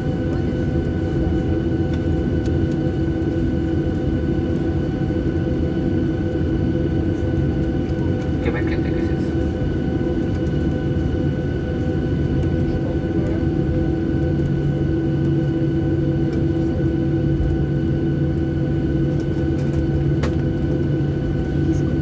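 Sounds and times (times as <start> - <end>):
jet engine whine: 0.0 - 22.0
jet engines rumbling: 0.0 - 22.0.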